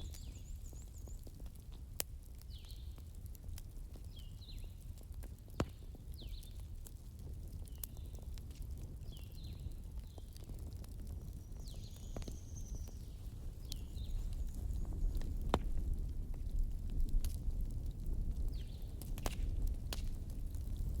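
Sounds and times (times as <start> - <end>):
fireplace fire crackling: 0.0 - 21.0
low rumble of flame: 0.0 - 21.0.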